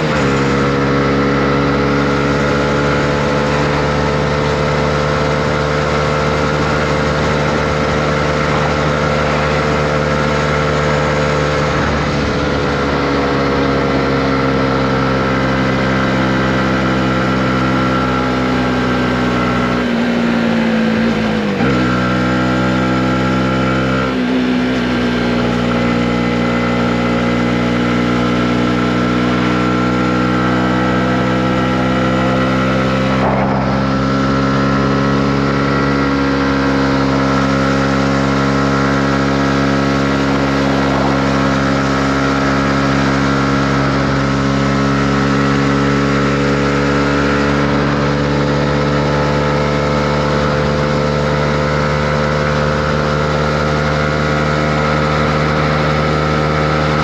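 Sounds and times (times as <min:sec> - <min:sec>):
motorcycle engine revving up: 0:00.0 - 0:57.0.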